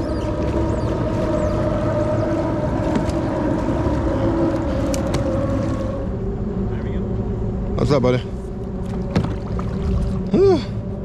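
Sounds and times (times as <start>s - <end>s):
mechanical drone with low rumble: 0.0s - 11.0s.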